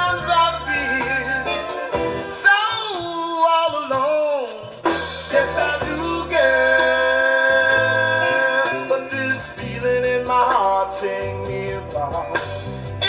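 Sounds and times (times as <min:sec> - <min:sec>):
band playing held chords: 0:00.0 - 0:13.0
man singing soul ballad: 0:00.0 - 0:13.0.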